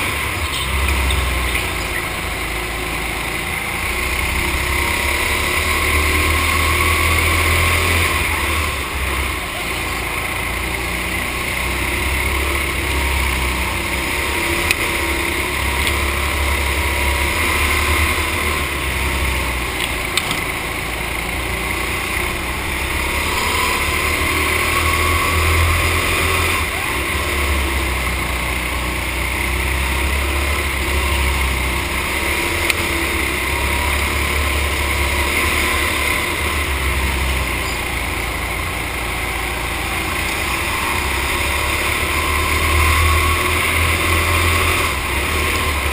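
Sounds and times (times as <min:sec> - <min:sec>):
go-kart engine running hard: 0:00.0 - 0:45.9.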